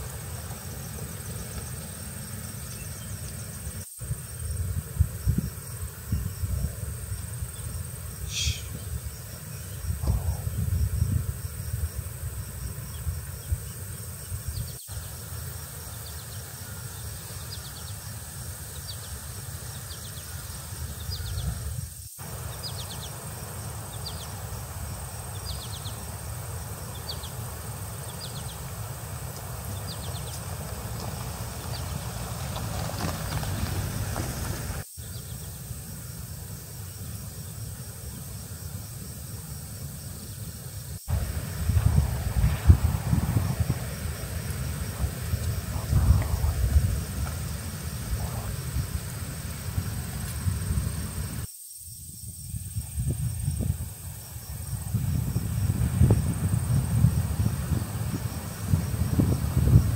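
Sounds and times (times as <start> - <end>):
high-pitched insect drone: 0.0 - 59.9
insect chirps: 0.0 - 59.9.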